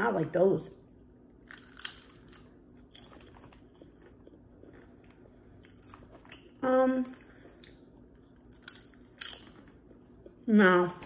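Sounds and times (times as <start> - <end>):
chewing crackles: 0.8 - 11.0
potato chip crunching: 1.3 - 11.0.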